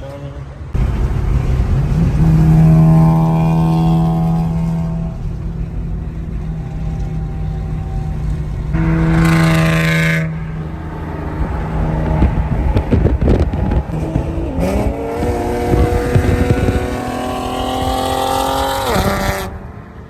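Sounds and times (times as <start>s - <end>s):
car engine revving and idling: 0.7s - 19.9s.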